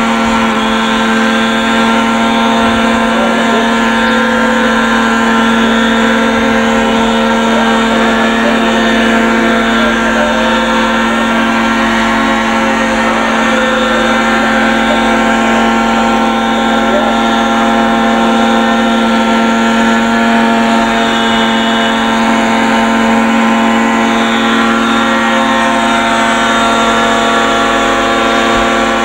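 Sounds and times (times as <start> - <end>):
model helicopter engine and rotor drone: 0.0 - 29.0.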